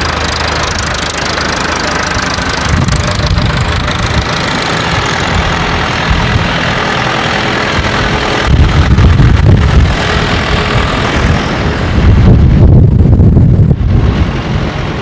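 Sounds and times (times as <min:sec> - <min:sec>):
tractor diesel engines rumbling: 0:00.0 - 0:15.0
wind buffeting microphone: 0:00.0 - 0:15.0.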